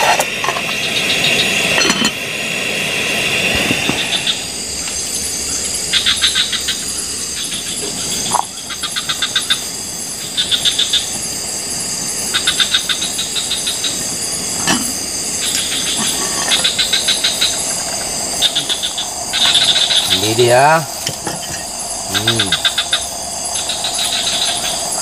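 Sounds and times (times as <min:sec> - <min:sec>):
high-pitched insect buzz: 0:00.0 - 0:25.0
rapid pulsed trill: 0:04.1 - 0:25.0.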